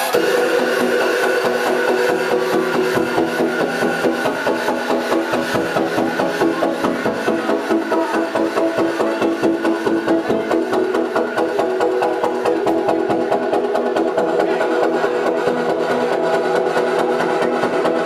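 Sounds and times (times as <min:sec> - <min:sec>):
electro house music: 0:00.0 - 0:18.0.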